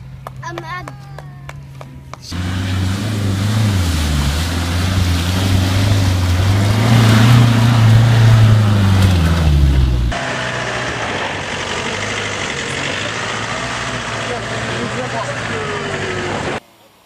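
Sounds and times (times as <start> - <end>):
tyres churning and splashing: 2.2 - 16.6
engine revving hard: 2.3 - 16.6.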